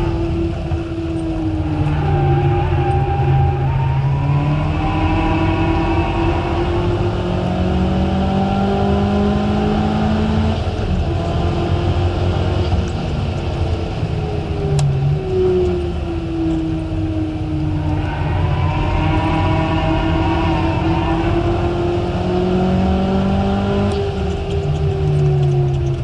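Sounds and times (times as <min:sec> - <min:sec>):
car engine pulling hard: 0:00.0 - 0:26.0
tyre and road noise: 0:00.0 - 0:26.0.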